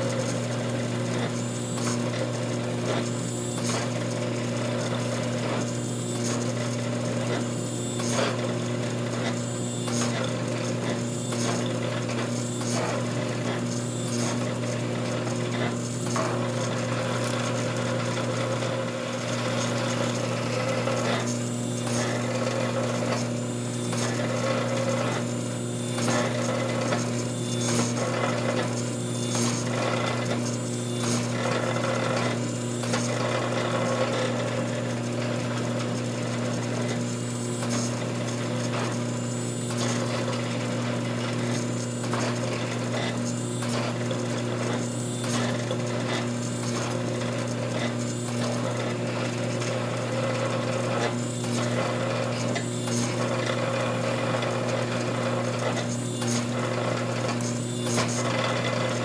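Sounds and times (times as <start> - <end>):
pump motor humming: 0.0 - 59.0.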